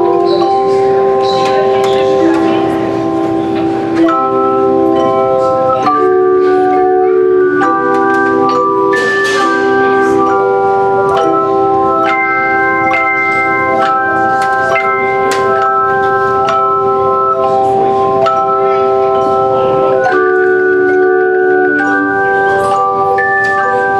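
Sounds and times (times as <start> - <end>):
handbells ringing chords: 0.0 - 23.9.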